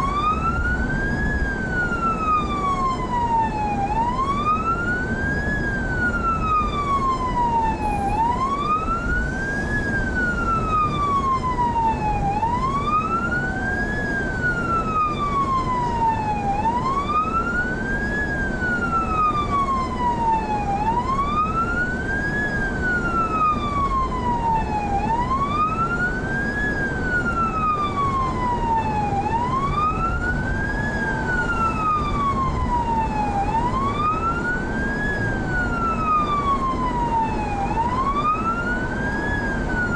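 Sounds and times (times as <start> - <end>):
police siren wailing: 0.0 - 39.9
road and engine noise: 0.0 - 39.9.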